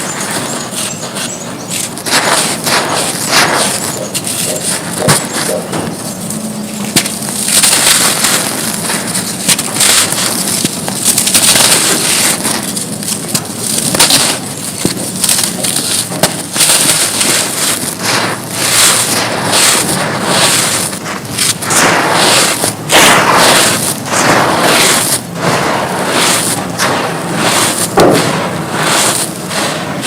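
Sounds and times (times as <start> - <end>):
dry mud crunching: 0.0 - 29.8.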